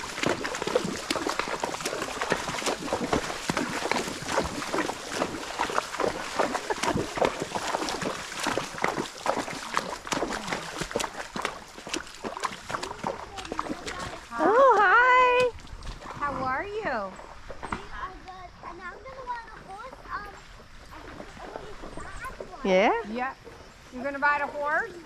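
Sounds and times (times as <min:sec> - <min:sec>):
hooves splashing in shallow water: 0:00.0 - 0:25.0.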